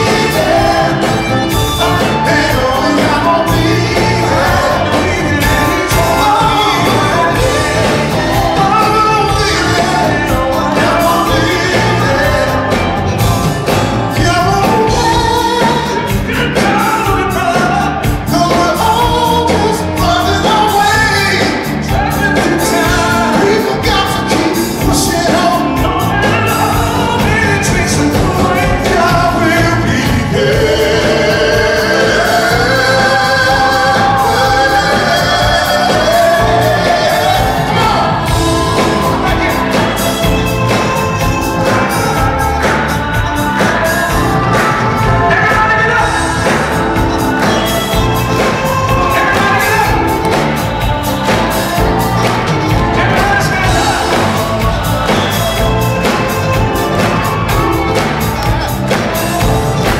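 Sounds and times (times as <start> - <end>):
live band playing: 0.0 - 59.9
man singing lead vocals: 0.0 - 59.9.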